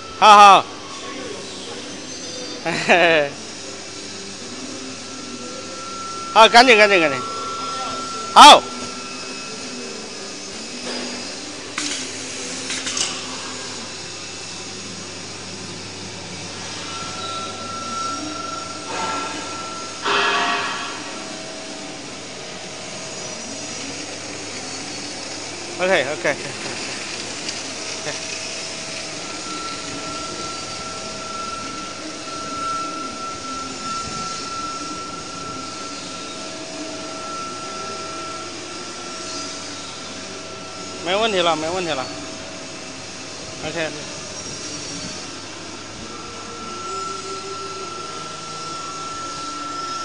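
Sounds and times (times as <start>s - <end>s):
high-pitched machine whine: 0.0s - 50.0s
rushing fan-like machine noise: 0.0s - 50.0s.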